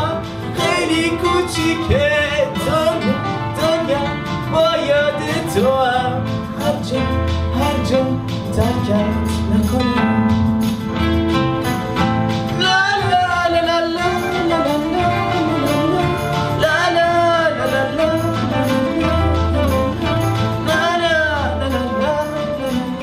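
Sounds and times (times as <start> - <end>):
person singing: 0.0 - 10.8, 12.4 - 23.0
instrumental backing with bass: 0.0 - 23.0.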